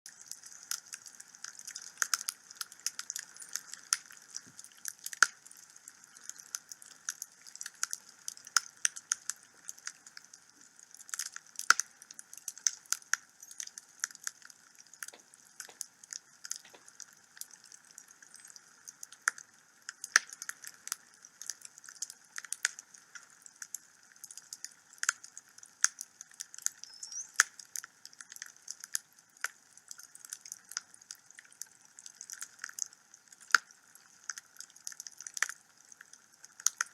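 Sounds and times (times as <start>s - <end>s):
wood fire crackling and popping: 0.1s - 36.9s.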